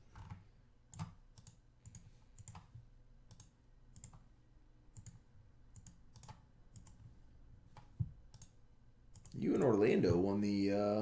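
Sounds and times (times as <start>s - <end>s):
computer mouse clicks: 0.1s - 4.3s, 4.9s - 9.8s.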